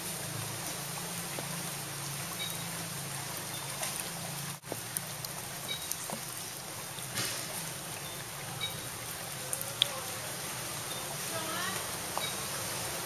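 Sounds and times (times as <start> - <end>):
rain falling on water: 0.0 - 13.0
small drips and plinks: 0.1 - 12.7.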